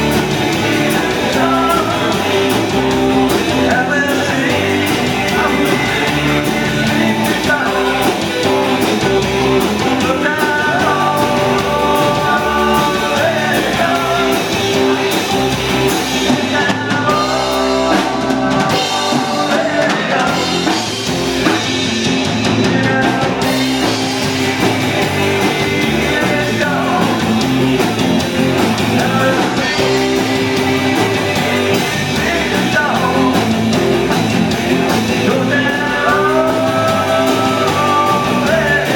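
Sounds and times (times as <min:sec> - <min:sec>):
live rock band playing: 0:00.0 - 0:38.9
person singing lead vocal: 0:00.0 - 0:38.9.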